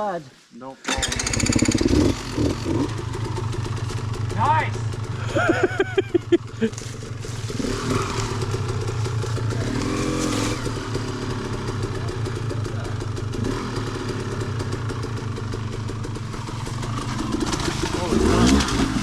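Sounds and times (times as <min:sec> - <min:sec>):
dirt bike engine running: 0:00.9 - 0:19.0.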